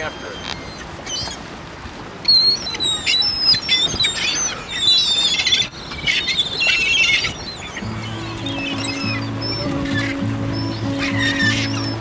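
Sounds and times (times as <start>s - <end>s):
gulls squawking: 0.0s - 1.5s, 2.2s - 12.0s.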